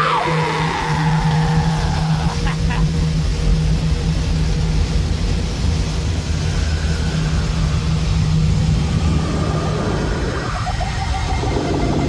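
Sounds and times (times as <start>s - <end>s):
droning noise music: 0.0s - 12.0s.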